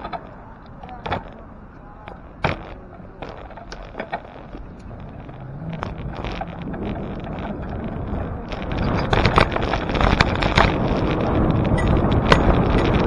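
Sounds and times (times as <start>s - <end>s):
road rumble: 0.0s - 13.0s
sharp clicks and knocks: 0.0s - 13.0s
wind on microphone: 0.0s - 13.0s.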